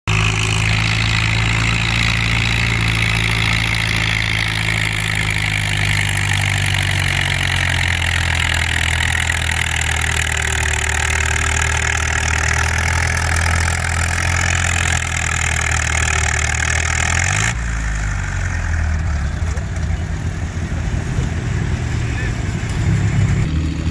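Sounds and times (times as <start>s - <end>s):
tractor engine running hard: 0.0s - 23.9s.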